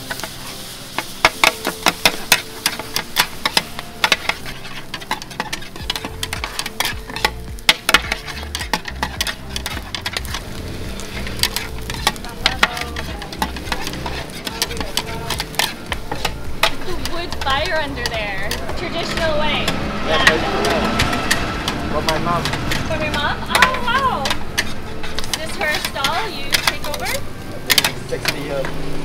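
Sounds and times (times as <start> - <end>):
food sizzling: 0.0 - 29.0
metal spatulas scraping a wok: 0.0 - 29.0.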